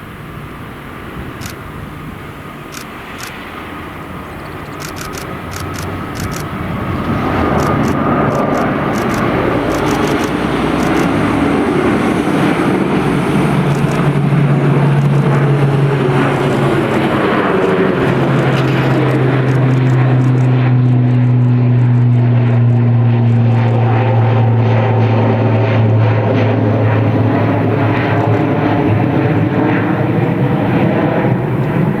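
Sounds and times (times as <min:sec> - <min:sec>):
airliner engines passing: 0:00.0 - 0:32.0.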